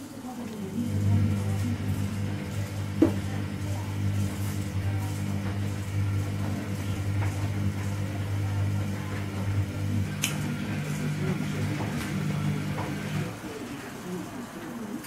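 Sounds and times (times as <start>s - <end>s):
small electric motor humming: 0.7s - 14.2s.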